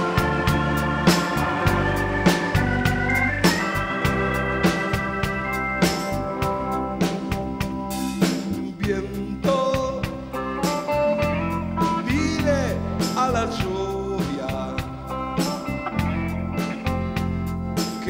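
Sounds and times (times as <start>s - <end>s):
bass guitar: 0.0s - 18.0s
drum kit beat: 0.0s - 18.0s
organ chords: 0.0s - 18.0s.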